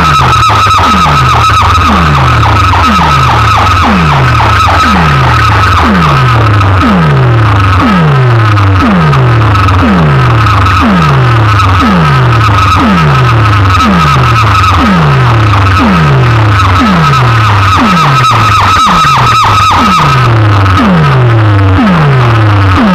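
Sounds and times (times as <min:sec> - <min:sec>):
deep bass note dropping in pitch: 0:00.0 - 0:22.9
steady high-pitched tone: 0:00.0 - 0:22.9.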